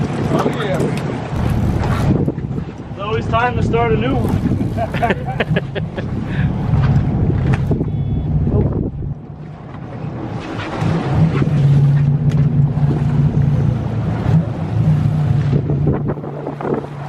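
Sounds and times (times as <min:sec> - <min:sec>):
boat engine humming: 0:00.0 - 0:17.0
water rushing along hull: 0:00.0 - 0:17.0
wind on microphone: 0:00.0 - 0:17.0.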